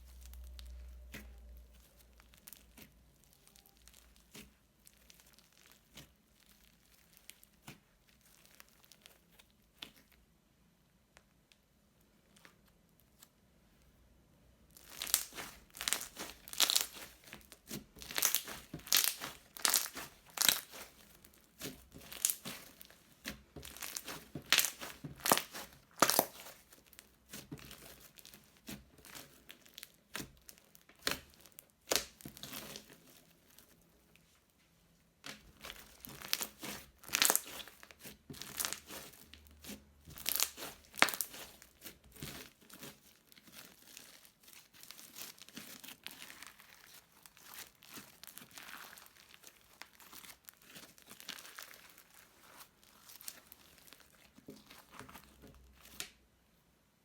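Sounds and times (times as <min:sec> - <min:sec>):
crunchy slime crackling: 0:00.0 - 0:13.8, 0:14.6 - 0:34.3, 0:35.2 - 0:56.3.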